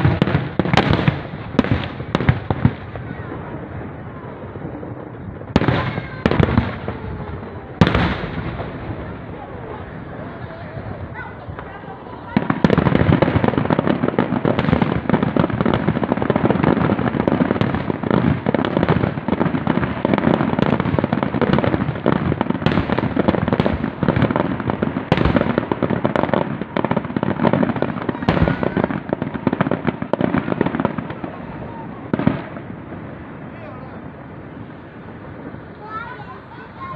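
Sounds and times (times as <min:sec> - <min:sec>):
fireworks booming and crackling: 0:00.0 - 0:36.9
sharp firework bangs: 0:00.0 - 0:36.9.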